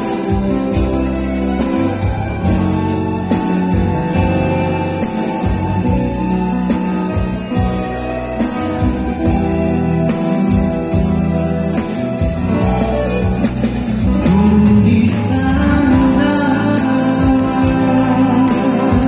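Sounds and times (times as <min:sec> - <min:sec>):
acoustic guitars: 0:00.0 - 0:19.0
electric bass guitar: 0:00.0 - 0:19.0
person singing: 0:00.0 - 0:19.0.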